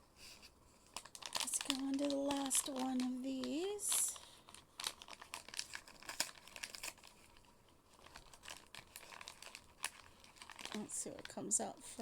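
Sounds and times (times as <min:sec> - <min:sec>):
packaging crinkling: 0:00.8 - 0:12.0.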